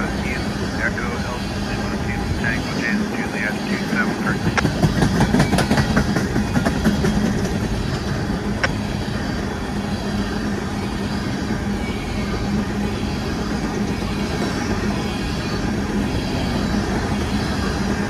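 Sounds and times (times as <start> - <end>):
faint hum: 0.0 - 18.0
steel wheels rumbling on rail: 0.0 - 18.0.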